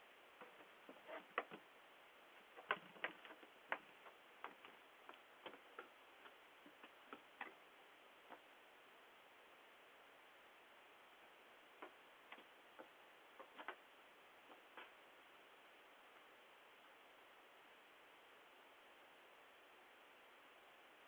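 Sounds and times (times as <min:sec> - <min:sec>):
microphone hiss: 0:00.0 - 0:21.0.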